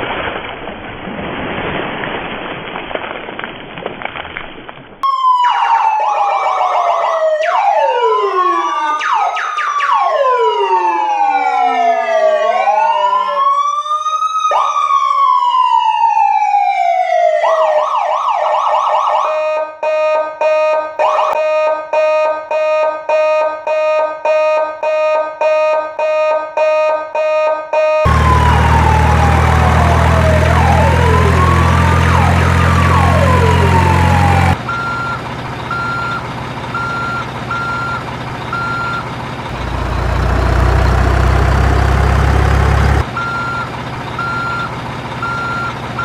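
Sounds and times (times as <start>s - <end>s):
electronic siren wailing: 5.0s - 45.7s.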